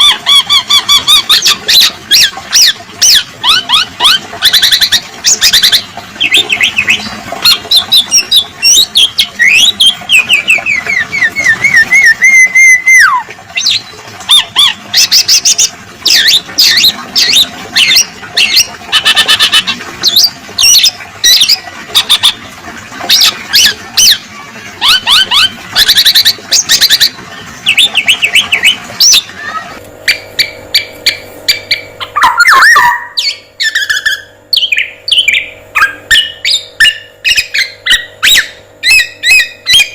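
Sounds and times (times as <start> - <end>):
bird chirps whistles and squawks: 0.0 - 22.4, 23.1 - 24.2, 24.8 - 39.9
steady low hum: 0.0 - 39.9.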